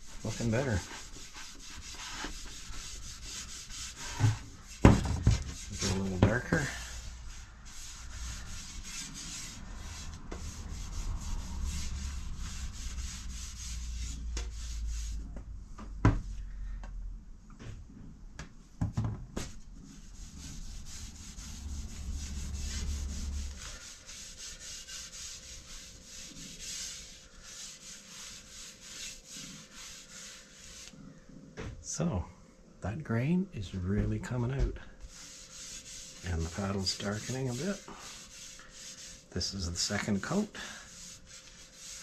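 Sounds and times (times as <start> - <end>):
cloth rag rubbing wood: 0.0 - 15.4, 19.4 - 31.0, 34.5 - 42.0.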